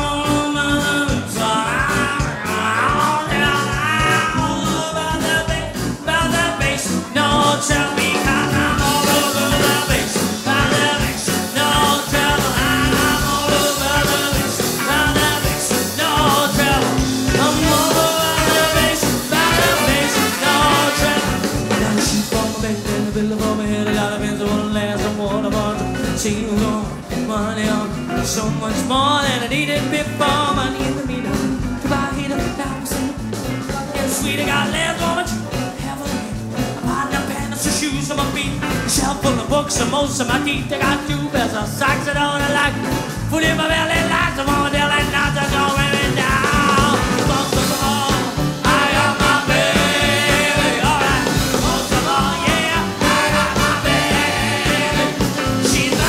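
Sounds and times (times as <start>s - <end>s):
swing band playing: 0.0s - 56.0s.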